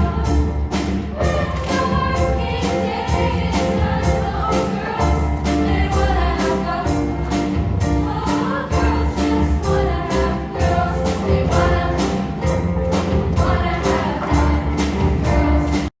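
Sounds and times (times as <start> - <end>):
backing music with steady beat: 0.0 - 15.9
show choir singing in chorus: 0.0 - 15.9.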